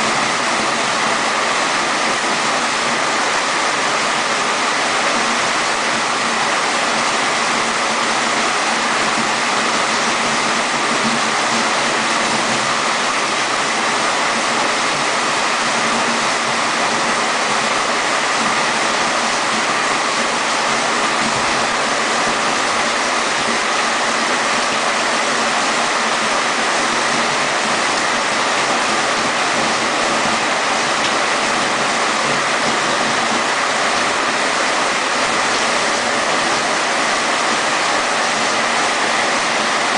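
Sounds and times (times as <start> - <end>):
heavy rain with rushing water: 0.0 - 39.9.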